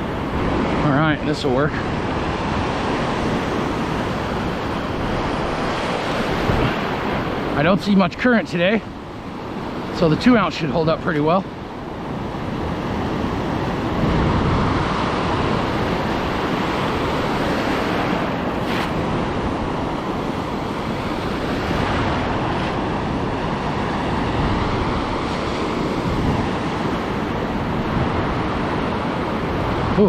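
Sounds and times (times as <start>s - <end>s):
surf washing: 0.0s - 30.0s
wind on microphone: 0.0s - 30.0s.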